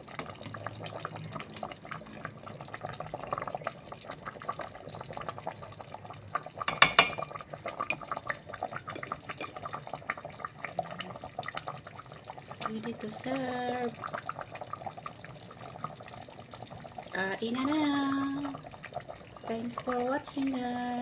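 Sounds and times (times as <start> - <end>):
sauce bubbling in a pot: 0.0 - 21.0.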